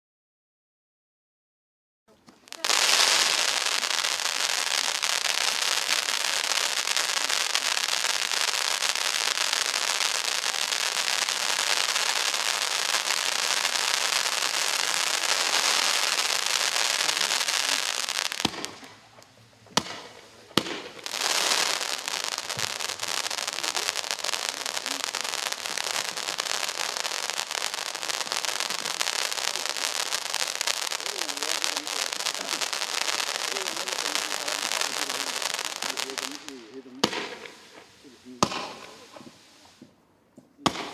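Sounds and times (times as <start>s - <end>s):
sharp pops: 2.2s - 40.9s
firework fountain hissing and crackling: 2.3s - 40.0s, 40.6s - 40.9s.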